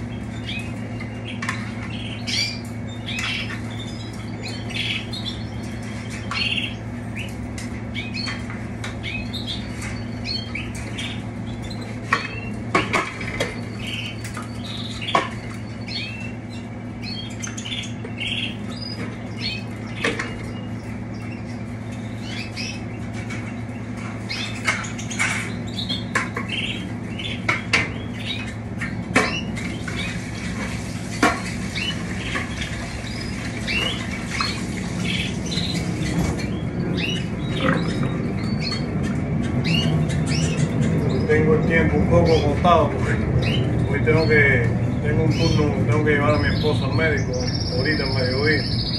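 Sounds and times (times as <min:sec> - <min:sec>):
canaries chirping: 0:00.0 - 0:48.9
low electrical hum: 0:00.0 - 0:48.9.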